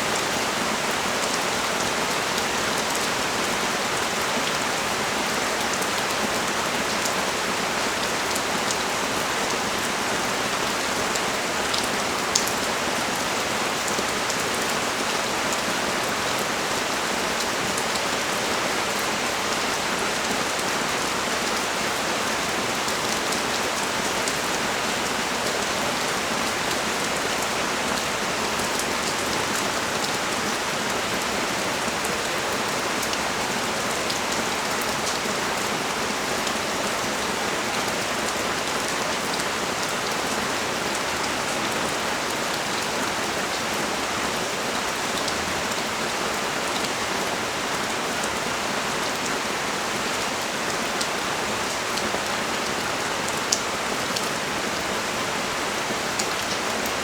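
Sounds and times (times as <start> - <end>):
rain falling on a street: 0.0 - 57.0.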